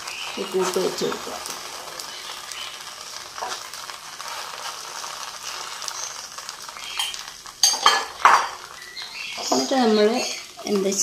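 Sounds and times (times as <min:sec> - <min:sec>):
crepe sizzling in a pan: 0:00.0 - 0:11.0.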